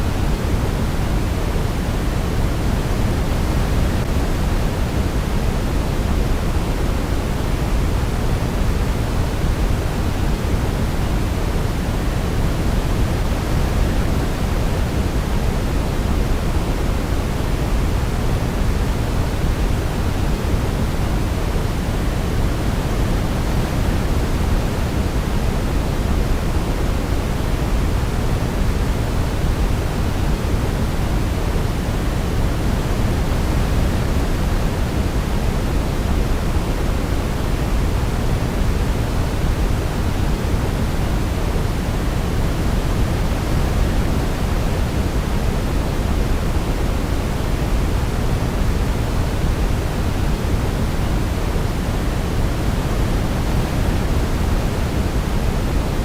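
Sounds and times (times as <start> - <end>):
deep white noise hiss: 0.0 - 56.0.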